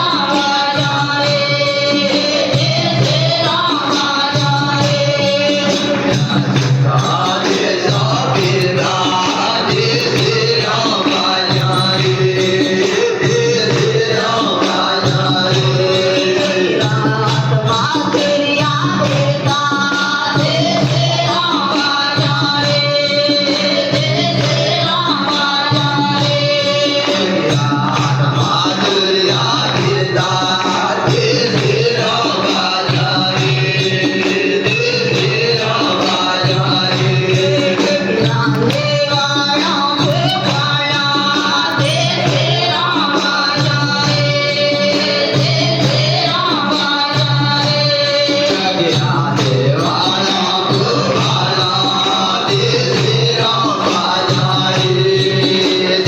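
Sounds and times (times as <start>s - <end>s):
music with steady beat: 0.0s - 56.0s
person singing devotional song: 0.0s - 56.0s.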